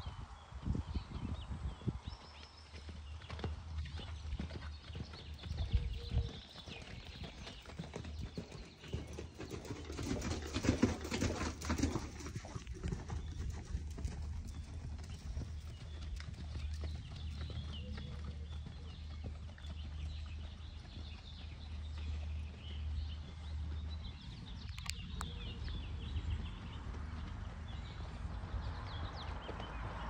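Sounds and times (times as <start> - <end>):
horse hoofbeats on sand: 2.0 - 30.0.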